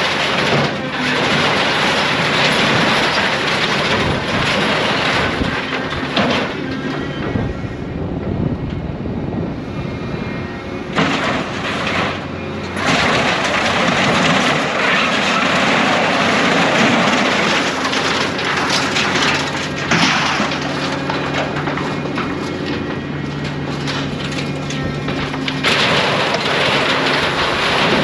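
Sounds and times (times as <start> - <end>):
scrap metal clanking and scraping: 0.0 - 7.7, 10.9 - 28.0
diesel engine and hydraulics: 0.0 - 28.0.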